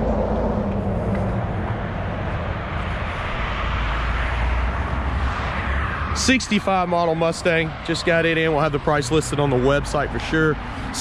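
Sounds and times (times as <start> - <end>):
traffic rumble and hiss: 0.0 - 11.0.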